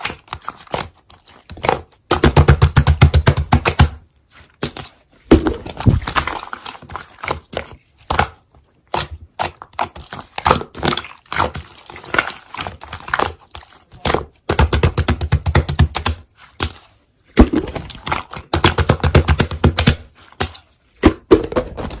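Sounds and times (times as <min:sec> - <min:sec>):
slime squelching: 0:00.0 - 0:22.0.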